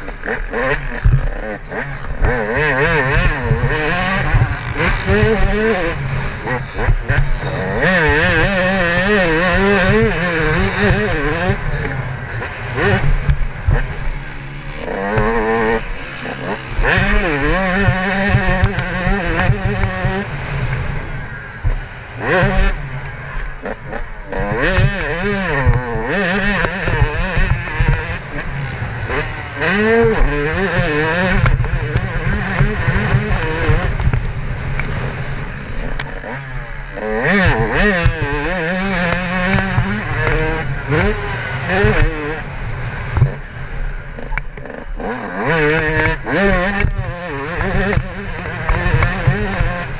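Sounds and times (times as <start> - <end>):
two-stroke engine revving: 0.0 - 49.9.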